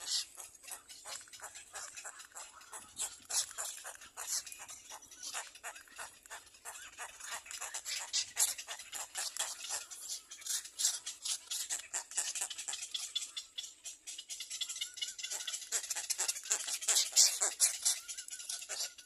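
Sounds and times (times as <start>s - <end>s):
nestling birds chirping: 0.0s - 19.0s.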